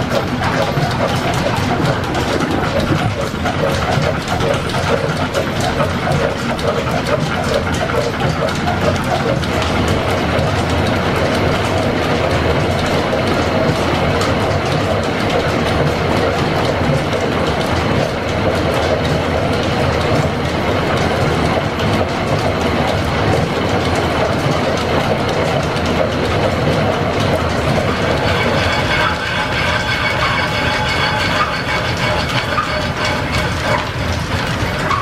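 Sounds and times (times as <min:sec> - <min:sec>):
mechanical clatter and rumble: 0:00.0 - 0:35.0.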